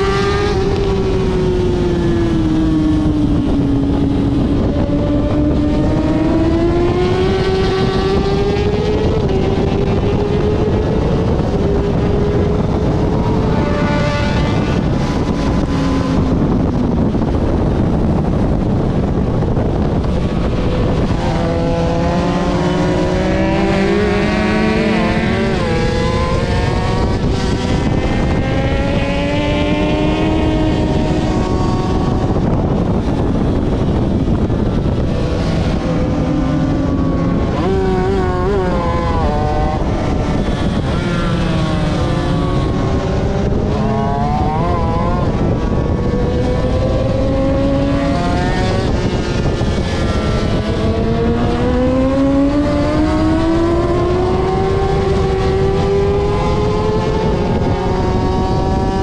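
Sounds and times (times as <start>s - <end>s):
race motorcycle engine revving: 0.0s - 59.0s.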